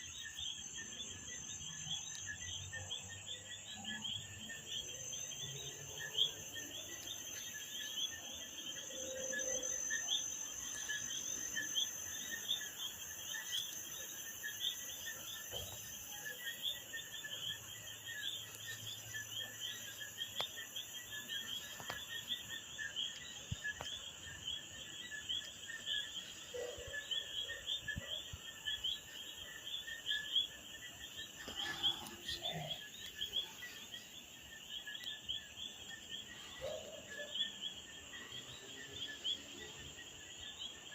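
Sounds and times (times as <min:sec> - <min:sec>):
chorus of small animals chirping: 0:00.0 - 0:40.9.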